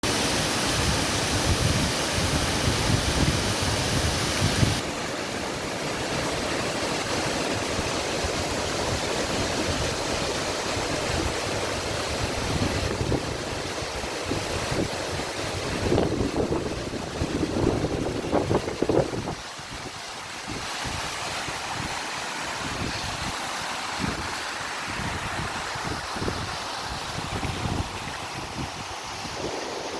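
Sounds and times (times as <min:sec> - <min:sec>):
waterfall and stream rushing: 0:00.0 - 0:29.9.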